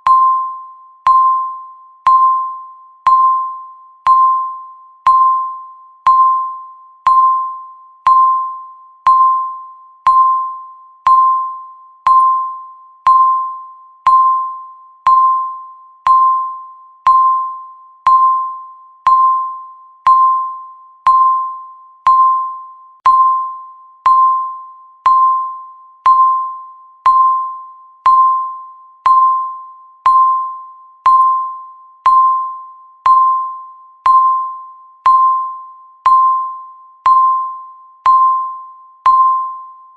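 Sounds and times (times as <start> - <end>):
timer tick with ringing tone: 0.0 - 39.9.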